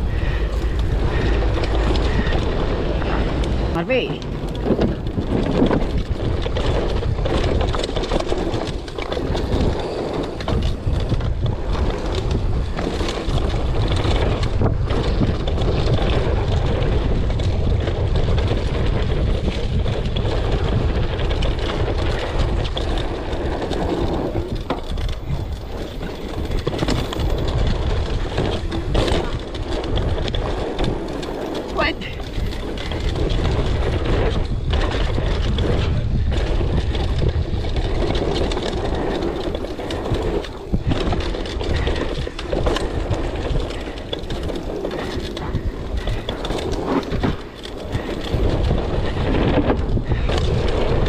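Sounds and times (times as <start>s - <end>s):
bike knocking and rattling: 0.0s - 51.0s
bike rumbling on trail: 0.0s - 51.0s
wind buffeting microphone: 0.0s - 51.0s.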